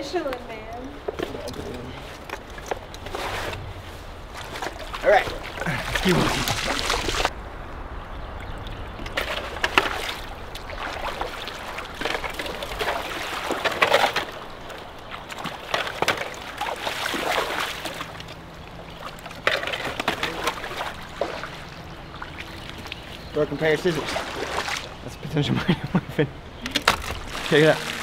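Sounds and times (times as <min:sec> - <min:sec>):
water sloshing and splashing: 0:00.6 - 0:07.4, 0:08.2 - 0:25.4, 0:26.5 - 0:28.0.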